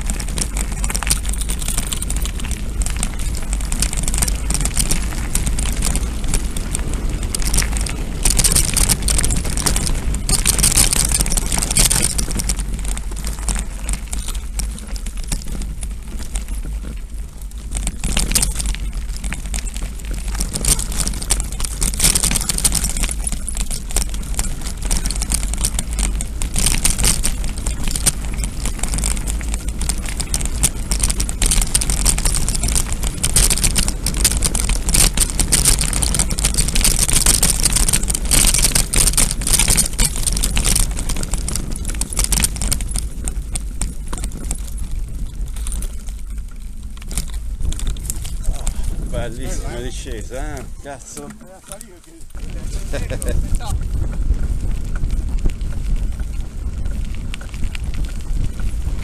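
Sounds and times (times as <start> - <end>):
bike rolling over gravel: 0.0 - 59.0
wind buffeting microphone: 0.0 - 59.0.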